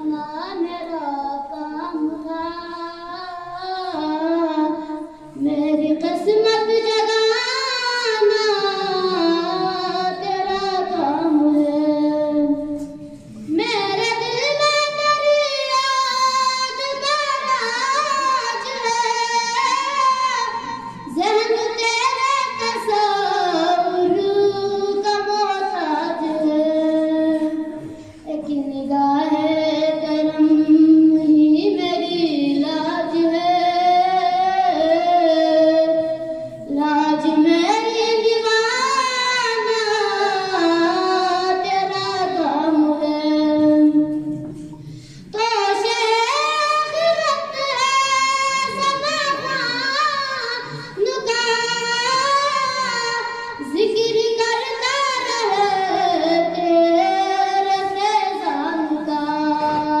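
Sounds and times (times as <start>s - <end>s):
boy singing devotional poem: 0.0s - 60.0s.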